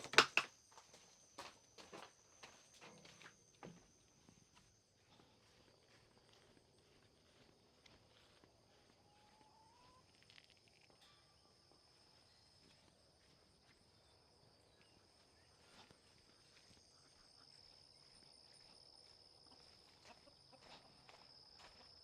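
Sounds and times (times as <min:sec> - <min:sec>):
faint insects droning: 0:00.0 - 0:22.0.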